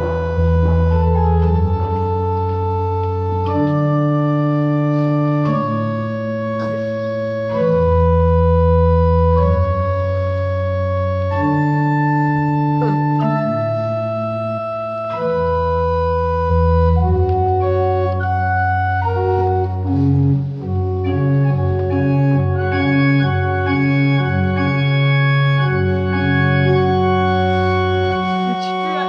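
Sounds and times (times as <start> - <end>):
church organ chords: 0.0 - 29.0
organ bass line: 0.0 - 29.0.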